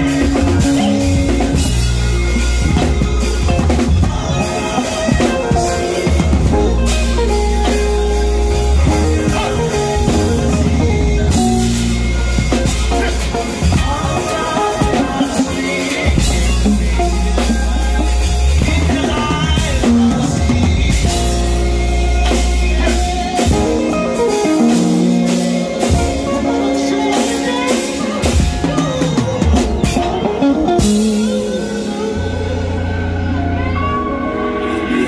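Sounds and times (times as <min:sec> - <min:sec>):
drum and cymbal hits: 0:00.0 - 0:32.0
live band playing: 0:00.0 - 0:35.0.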